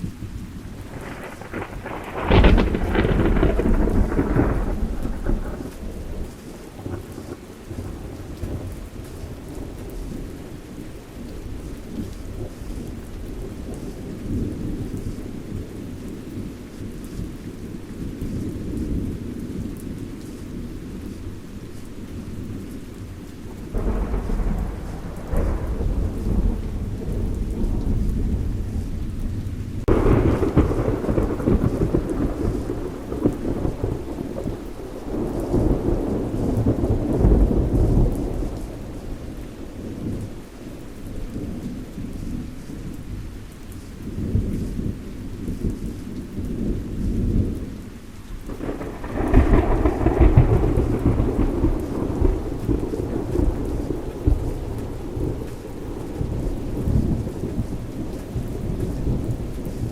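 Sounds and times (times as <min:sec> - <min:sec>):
thunderclaps with rumbling: 0:00.0 - 0:21.5, 0:22.2 - 0:43.3, 0:44.0 - 0:59.9
steady rain: 0:00.0 - 0:59.9.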